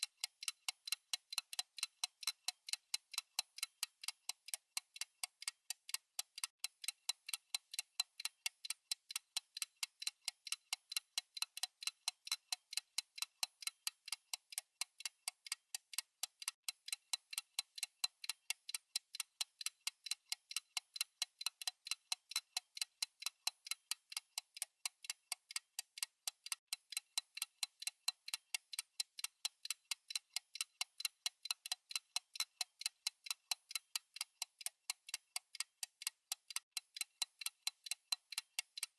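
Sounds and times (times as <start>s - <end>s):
fast clock ticking: 0.0s - 38.9s.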